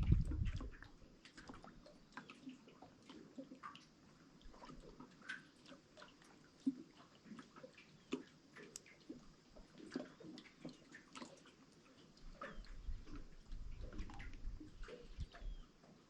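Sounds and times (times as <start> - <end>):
water dripping and splashing: 0.0 - 16.0.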